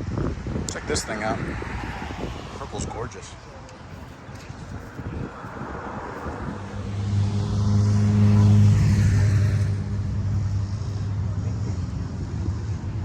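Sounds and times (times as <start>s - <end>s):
car engine and exhaust rumble: 0.0s - 13.0s.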